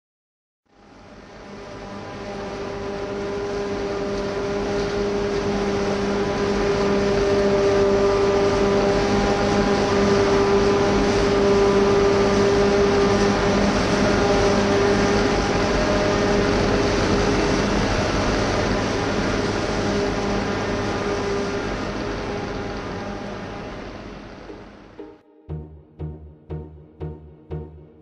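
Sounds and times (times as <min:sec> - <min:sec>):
forage harvester machine drone: 0:00.9 - 0:24.3.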